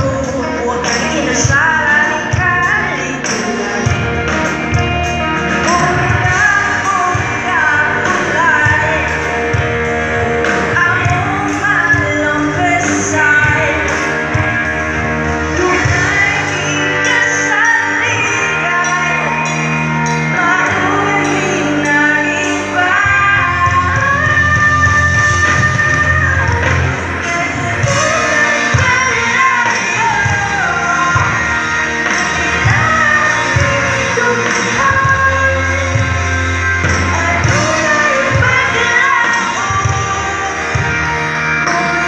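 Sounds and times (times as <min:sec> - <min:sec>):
live band playing pop song: 0:00.0 - 0:42.0
person singing: 0:00.0 - 0:42.0.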